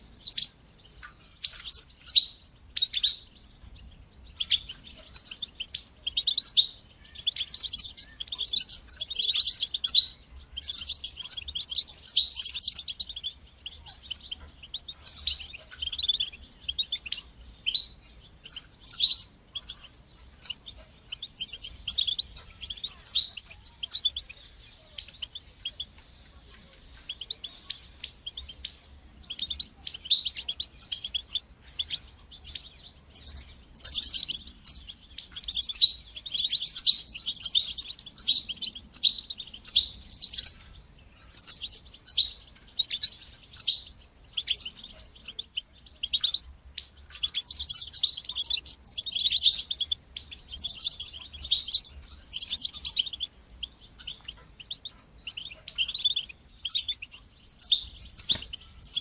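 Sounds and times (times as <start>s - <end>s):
finch twittering and trilling: 0.0s - 59.0s.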